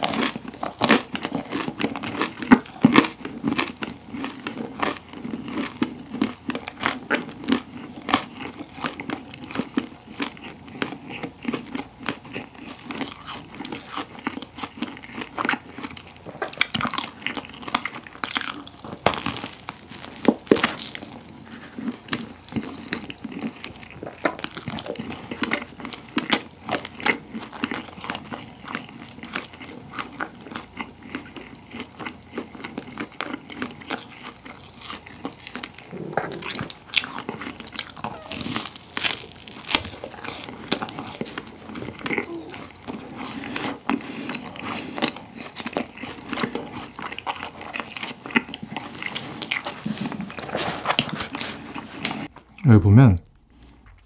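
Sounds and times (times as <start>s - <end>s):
chewing crunchy bread crust: 0.0s - 54.0s.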